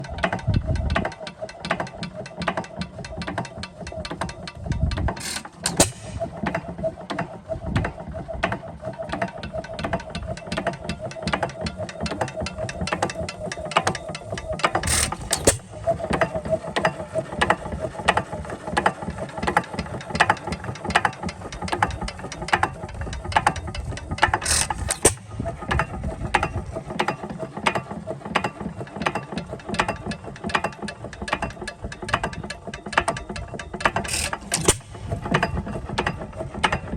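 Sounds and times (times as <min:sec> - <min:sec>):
engine clicking over a hum: 0:00.0 - 0:36.9.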